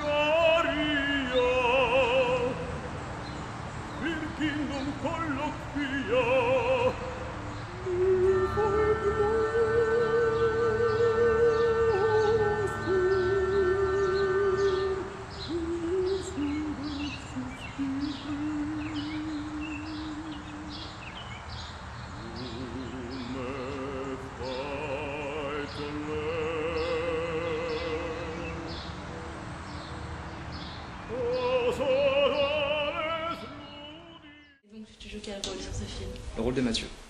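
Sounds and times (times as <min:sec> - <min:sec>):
person singing slow melody: 0:00.0 - 0:21.4, 0:22.1 - 0:34.6.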